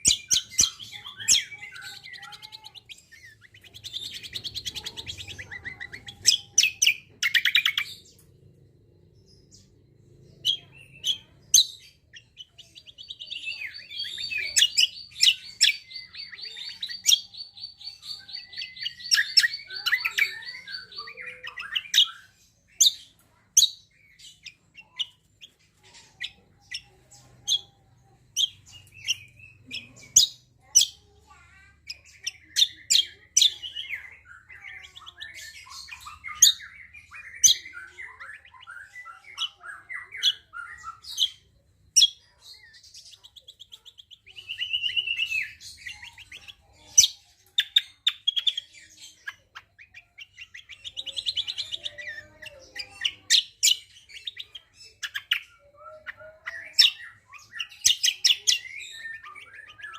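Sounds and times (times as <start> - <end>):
bird chirping and warbling: 0.0 - 59.9
buzzy bird trill: 0.0 - 59.9.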